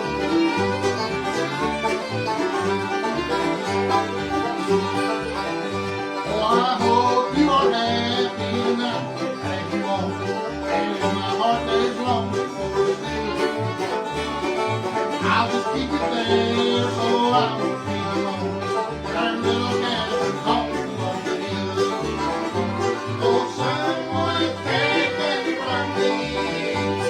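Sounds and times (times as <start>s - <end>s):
banjo picking: 0.0s - 27.0s
bass notes: 0.0s - 27.0s
fiddle: 0.0s - 27.0s
strummed guitar: 0.0s - 27.0s.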